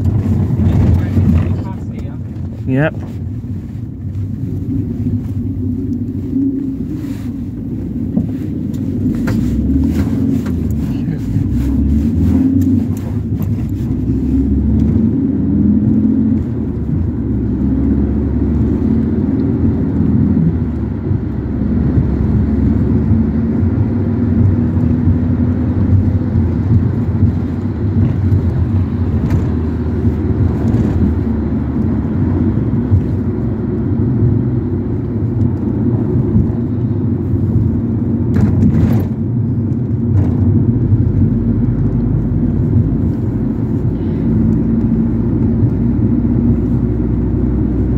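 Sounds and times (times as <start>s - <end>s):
road noise: 0.0s - 47.9s
van engine drone: 0.0s - 47.9s.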